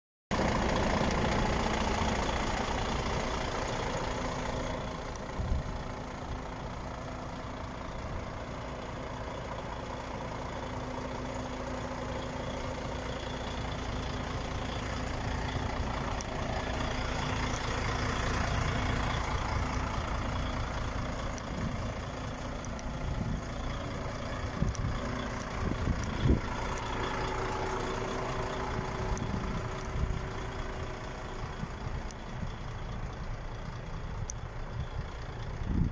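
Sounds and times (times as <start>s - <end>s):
diesel truck engine idling: 0.3s - 35.9s.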